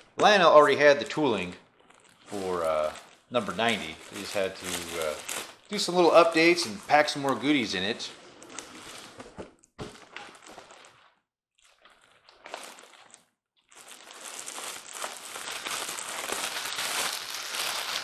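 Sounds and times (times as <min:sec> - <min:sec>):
packing material and cardboard rustling: 0:00.0 - 0:18.0.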